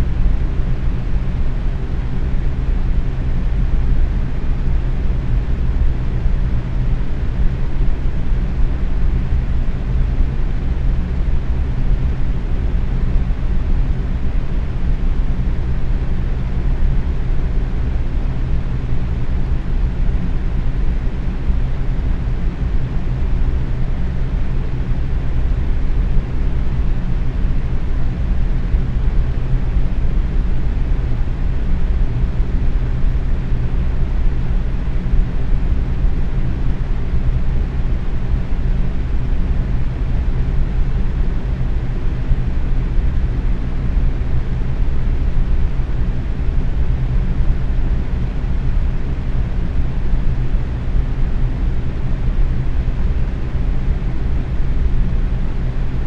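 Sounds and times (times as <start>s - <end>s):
box fan rushing air: 0.0s - 56.0s
faint steady hum: 0.0s - 56.0s.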